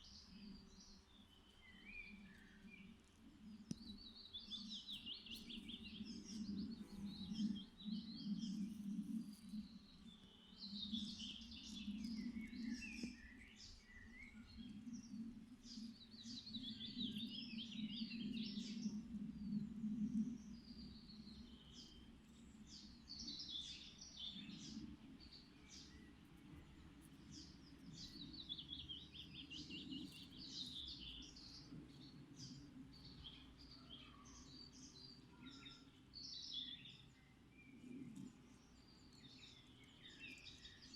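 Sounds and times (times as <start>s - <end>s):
songbirds singing trills: 0.0s - 40.9s.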